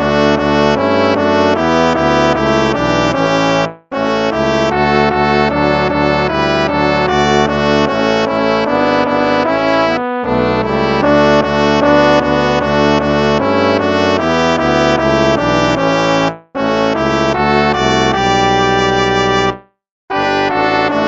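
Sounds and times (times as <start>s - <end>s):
instrumental hymn chords: 0.0s - 21.0s.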